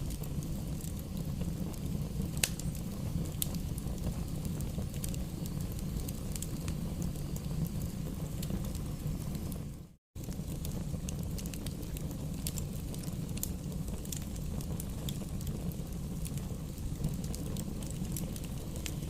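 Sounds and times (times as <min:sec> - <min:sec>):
fire flames rumbling: 0:00.0 - 0:19.0
logs crackling and popping: 0:00.0 - 0:19.0.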